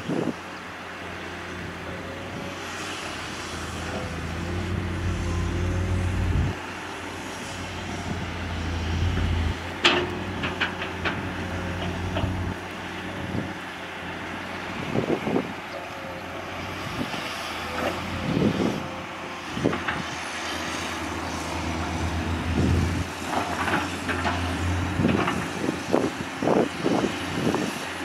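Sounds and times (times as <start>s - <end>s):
excavator diesel engine rumbling: 0.0s - 28.0s.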